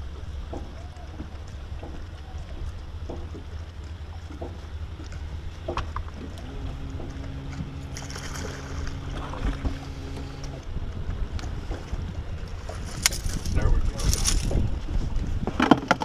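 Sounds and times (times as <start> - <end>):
wind and water against boat hull: 0.0 - 16.0
electric motor hum: 1.3 - 14.8.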